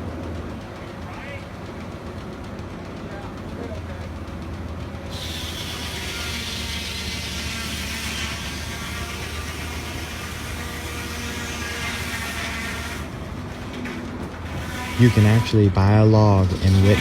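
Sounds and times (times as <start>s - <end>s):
sawmill machinery hum: 0.0s - 17.0s.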